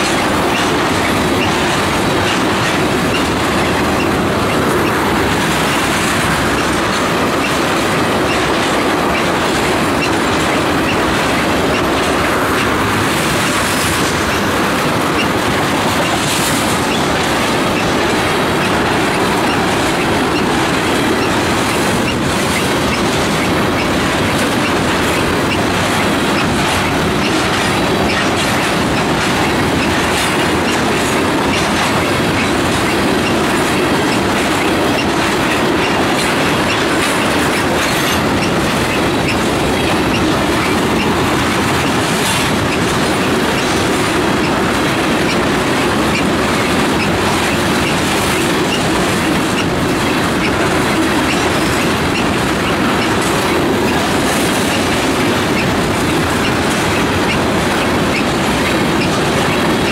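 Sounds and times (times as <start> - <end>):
freight train wheels rumbling: 0.0 - 59.9
wheels clacking over rail joints: 0.0 - 59.9.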